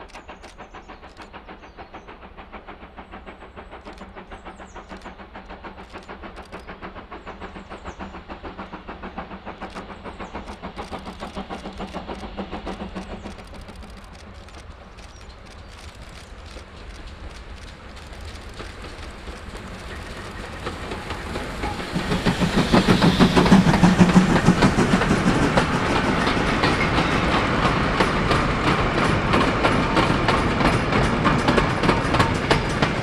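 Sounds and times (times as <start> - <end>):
steam locomotive chuffing: 0.0 - 33.0
train rushing: 0.0 - 33.0.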